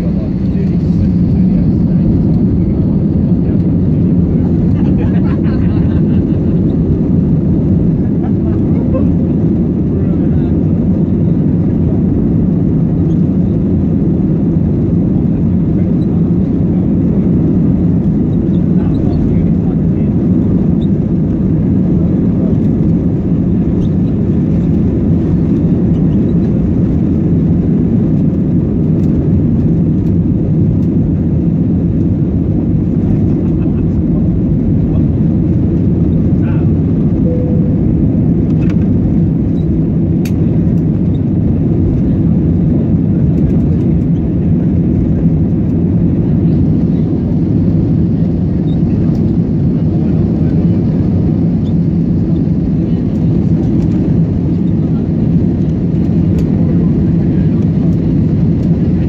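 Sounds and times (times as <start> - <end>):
jet engines and rushing air: 0.0 - 59.0.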